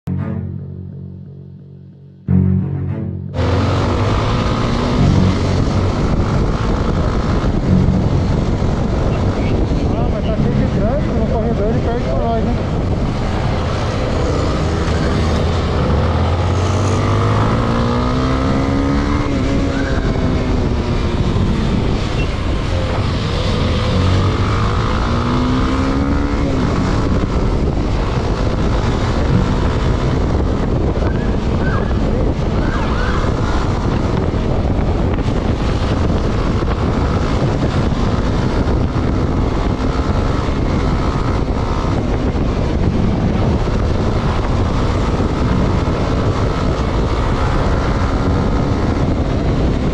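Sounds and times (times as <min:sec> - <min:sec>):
motorcycle engines revving: 0:03.3 - 0:49.9
wind on microphone: 0:03.3 - 0:49.9.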